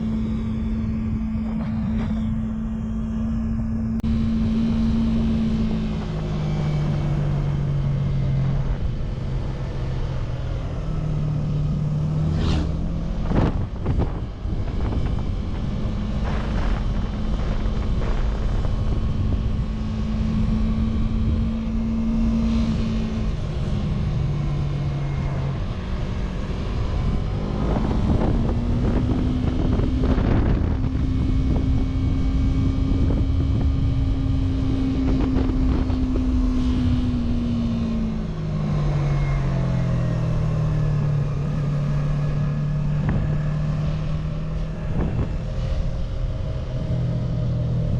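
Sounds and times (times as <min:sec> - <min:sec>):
motorcycle engine cruising: 0:00.0 - 0:47.9
wind noise: 0:00.0 - 0:47.9.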